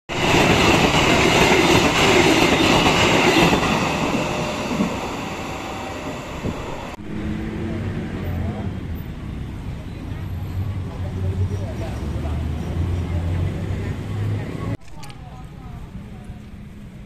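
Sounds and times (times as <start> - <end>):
train carriages rolling on track: 0.1 - 17.0.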